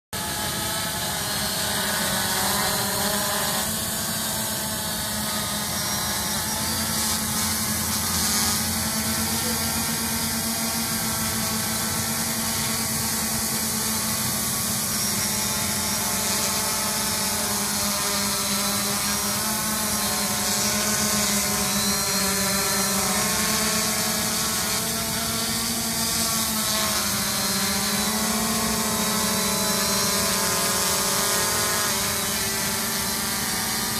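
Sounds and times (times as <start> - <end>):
drone propellers buzzing: 0.2 - 33.9.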